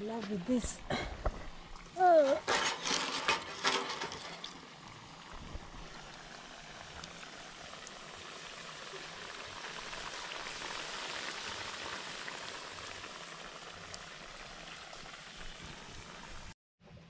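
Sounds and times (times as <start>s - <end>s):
hot oil sizzling in a wok: 2.7s - 16.5s.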